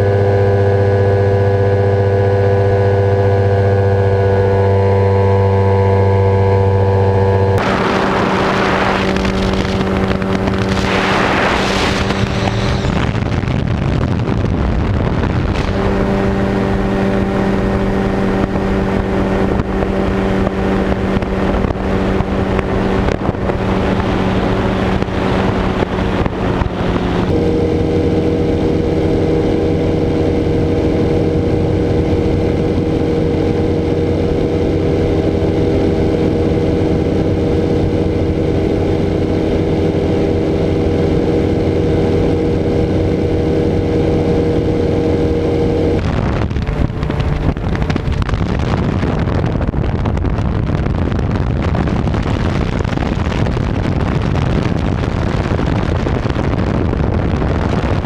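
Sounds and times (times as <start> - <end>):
aircraft engine and propeller: 0.0 - 58.0
airflow noise: 7.3 - 35.8, 38.1 - 58.0.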